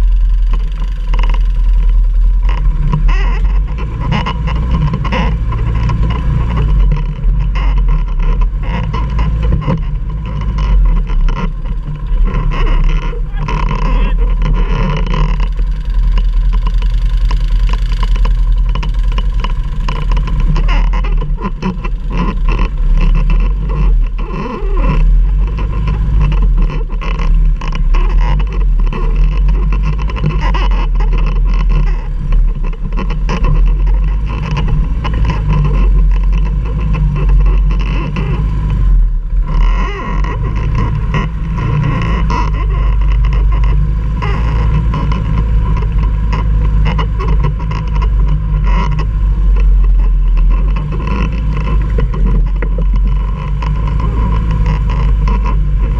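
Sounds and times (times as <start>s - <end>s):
engine low drone: 0.0s - 55.9s.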